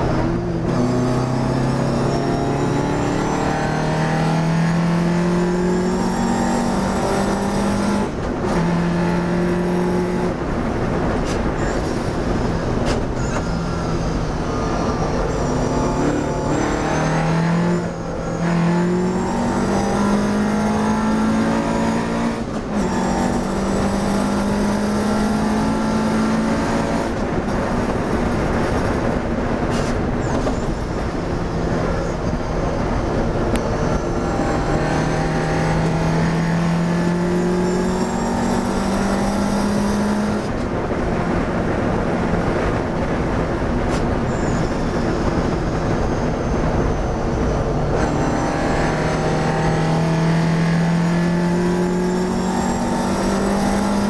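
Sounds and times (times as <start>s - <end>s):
racing car engine accelerating: 0.0s - 54.0s
wind and road noise: 0.0s - 54.0s.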